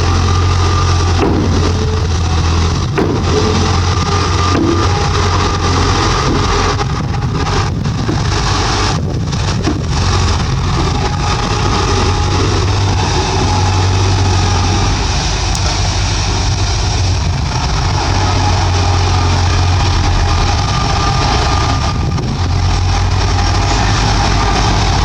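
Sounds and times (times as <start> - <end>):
bulldozer diesel engine drone: 0.0 - 25.0.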